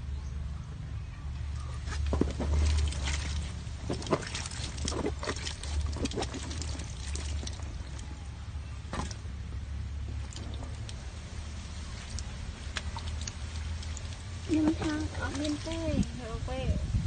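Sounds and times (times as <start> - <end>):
low hum: 0.0 - 17.0
water splashing and trickling: 1.4 - 17.0
sharp splashes: 1.9 - 16.2.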